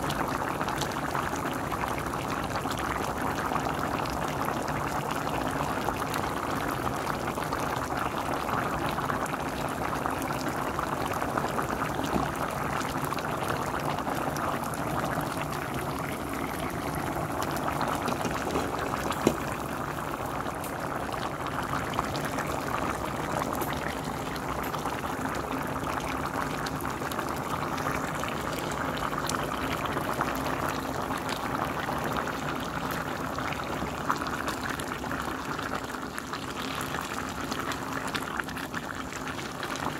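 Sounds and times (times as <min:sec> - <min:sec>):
pot bubbling at a boil: 0:00.0 - 0:39.9.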